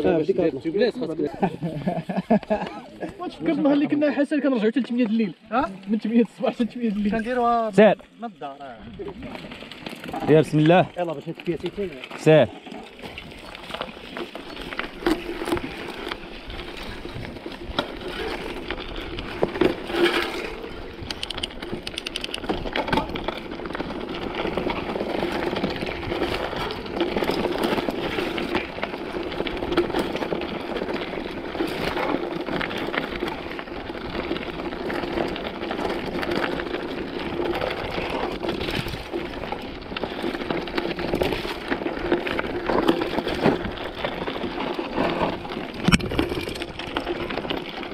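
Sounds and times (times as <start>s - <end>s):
bike rattling over bumps: 0.0s - 47.9s
bike tyres rolling on dirt: 0.0s - 47.9s.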